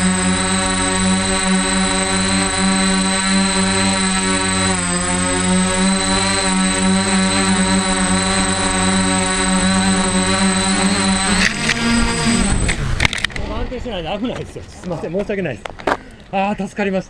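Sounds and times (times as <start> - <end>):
quadcopter motors humming: 0.0 - 13.8.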